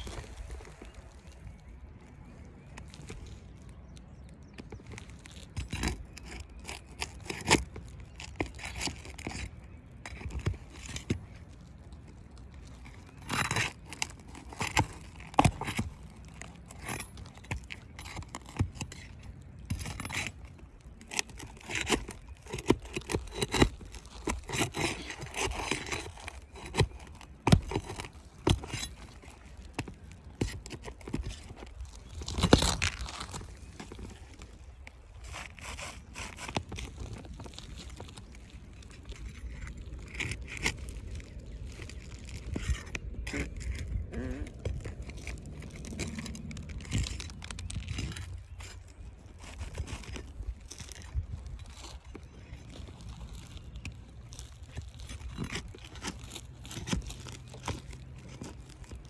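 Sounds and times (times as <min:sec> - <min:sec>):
shingles scraping and crackling: 0:00.0 - 0:59.0.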